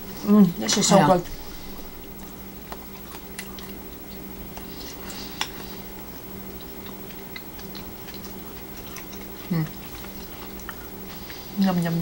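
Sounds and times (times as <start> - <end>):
people chewing: 0.0 - 12.0
steady low hum: 0.0 - 12.0.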